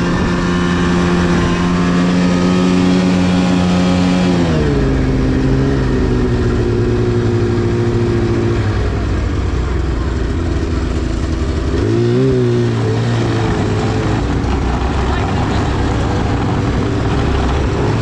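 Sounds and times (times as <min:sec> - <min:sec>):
snowmobile engine running: 0:00.0 - 0:18.0.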